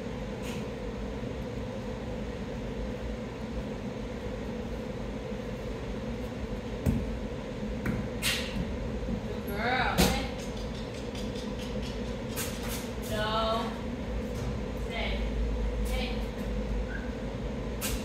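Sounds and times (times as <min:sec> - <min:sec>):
ventilation system hum: 0:00.0 - 0:18.0.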